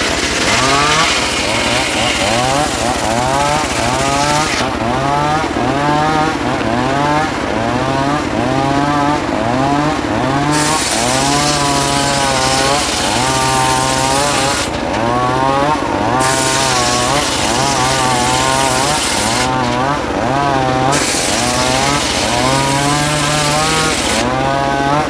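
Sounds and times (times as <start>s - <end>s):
saw blade hissing through wood: 0.0s - 7.4s, 8.8s - 25.0s
circular saw motor: 0.0s - 25.0s.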